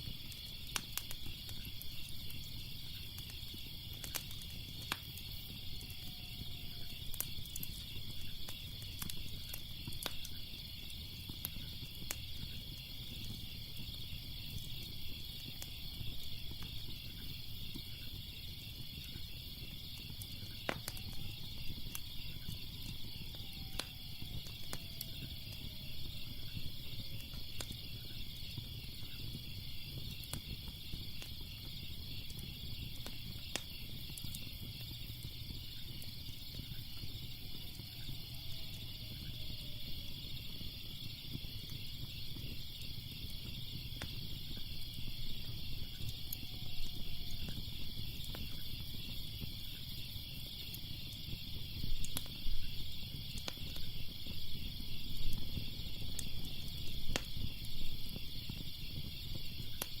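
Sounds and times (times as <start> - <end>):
crickets chirping: 0.0 - 60.0
wood fire crackling: 0.0 - 60.0.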